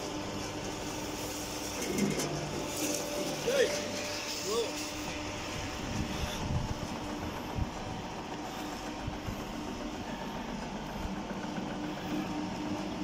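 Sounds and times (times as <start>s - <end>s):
juicer motor humming: 0.0s - 13.0s.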